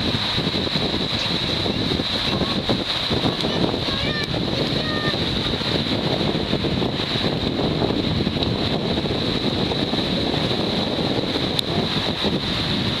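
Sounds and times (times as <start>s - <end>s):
small waves breaking: 0.0s - 13.0s
wind buffeting microphone: 0.0s - 13.0s.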